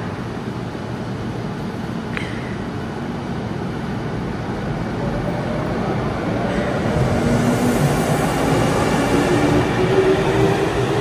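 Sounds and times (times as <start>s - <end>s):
electric train rumble: 0.0s - 11.0s.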